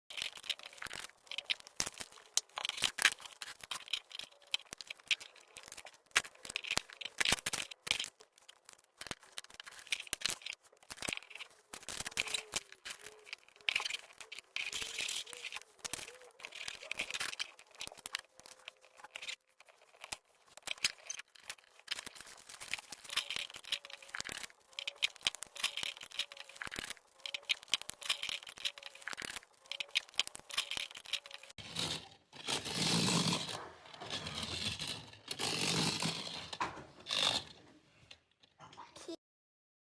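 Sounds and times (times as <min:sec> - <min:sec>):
rustling: 0:00.1 - 0:37.4
plastic bricks clicking together: 0:00.1 - 0:37.6.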